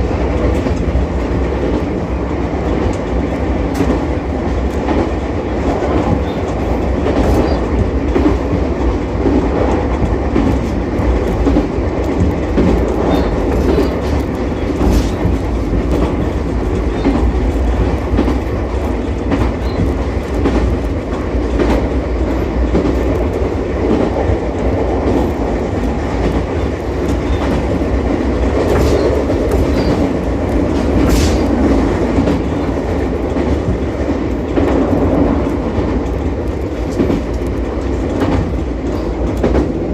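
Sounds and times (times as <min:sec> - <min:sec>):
electric railcar rumbling: 0:00.0 - 0:39.9
wheels clicking over rail joints: 0:00.0 - 0:39.9.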